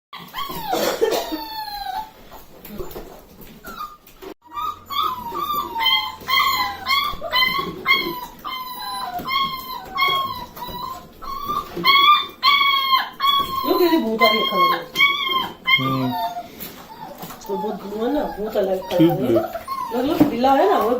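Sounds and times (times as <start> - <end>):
puppy whining yelps: 0.2 - 20.9.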